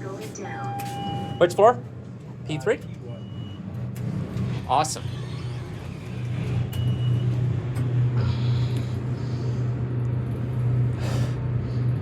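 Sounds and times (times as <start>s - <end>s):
elevator machine hum: 0.0s - 12.0s.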